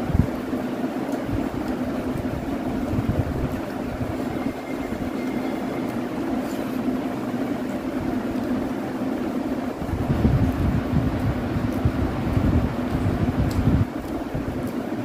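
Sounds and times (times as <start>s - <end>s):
air buffeting microphone: 0.0s - 15.0s
electric fan humming: 0.0s - 15.0s.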